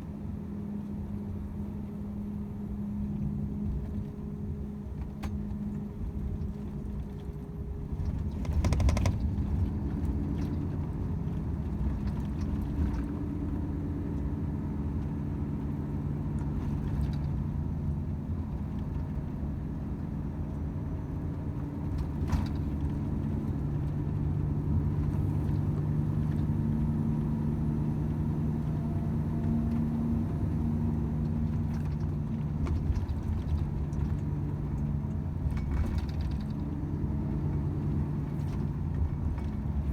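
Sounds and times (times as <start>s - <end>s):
road rumble: 0.0s - 39.9s
truck diesel engine droning: 0.0s - 39.9s.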